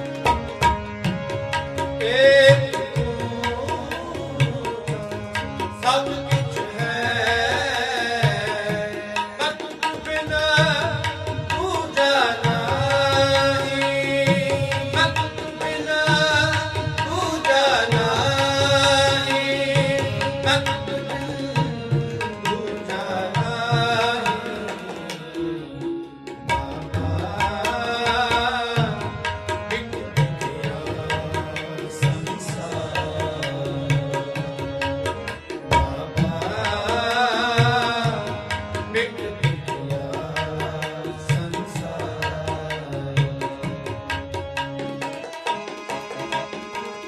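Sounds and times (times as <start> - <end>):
harmonium notes: 0.0 - 47.0
tabla rhythm: 0.0 - 47.0.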